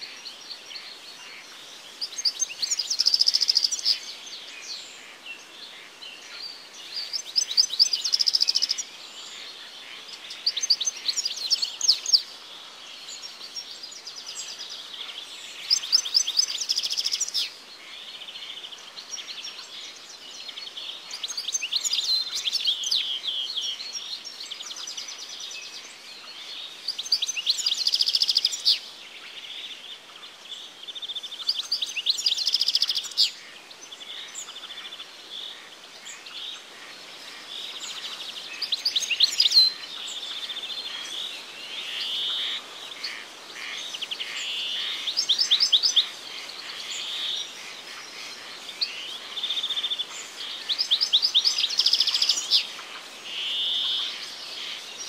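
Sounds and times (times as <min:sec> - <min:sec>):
birds chirping softly: 0:00.0 - 0:55.0
songbird trilling song: 0:00.0 - 0:55.0.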